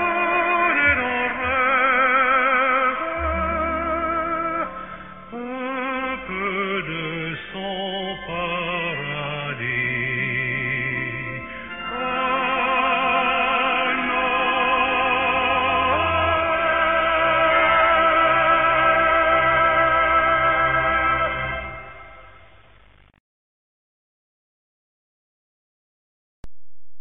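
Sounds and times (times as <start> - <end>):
person singing with vibrato: 0.0 - 22.4
sustained orchestral chords: 0.0 - 22.4.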